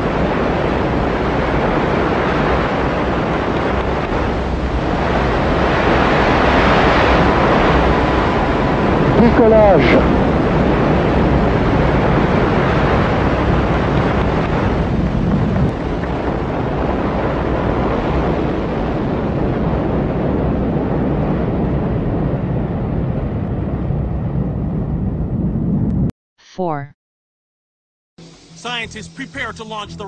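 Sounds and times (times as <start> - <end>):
rocket exploding and burning: 0.0 - 26.1.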